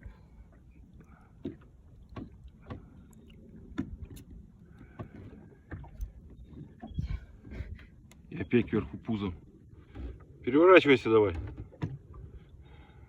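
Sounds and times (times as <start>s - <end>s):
water lapping at hull: 0.0s - 13.0s.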